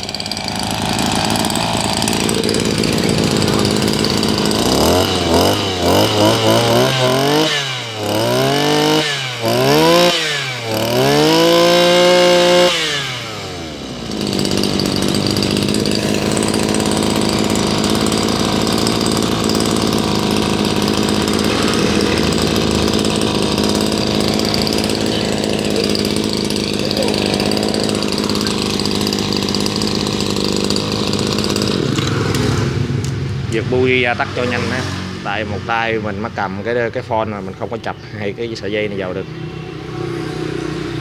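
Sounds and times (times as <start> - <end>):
brushcutter engine revving and idling: 0.0 - 37.9, 38.5 - 41.0.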